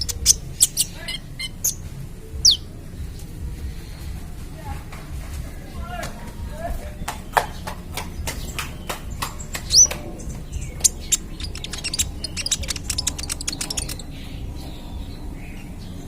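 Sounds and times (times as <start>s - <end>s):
bird chipping notes: 0.0s - 4.1s, 7.1s - 16.0s
steady low hum: 0.0s - 16.0s.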